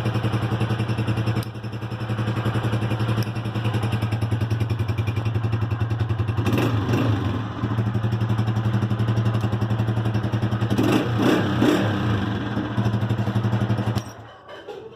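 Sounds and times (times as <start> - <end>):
motorcycle engine idling: 0.0 - 14.3.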